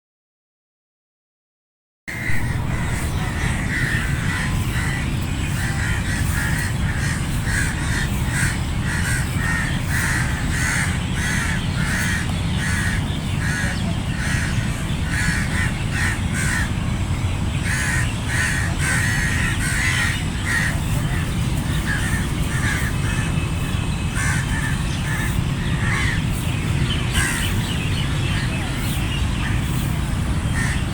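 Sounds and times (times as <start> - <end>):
crows cawing: 2.1 - 16.8, 17.6 - 28.5, 30.5 - 30.9
steady low rumble: 2.1 - 30.9.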